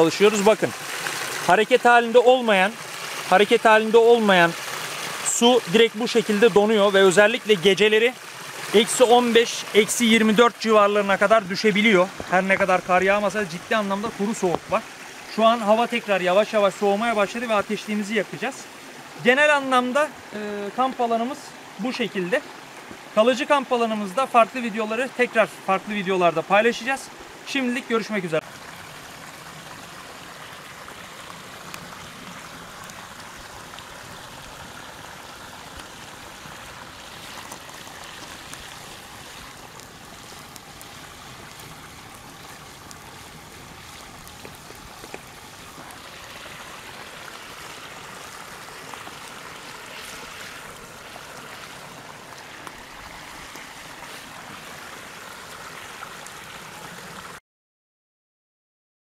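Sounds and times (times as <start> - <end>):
campfire crackles: 0.0 - 24.1, 26.6 - 57.4
stream running: 0.0 - 57.4.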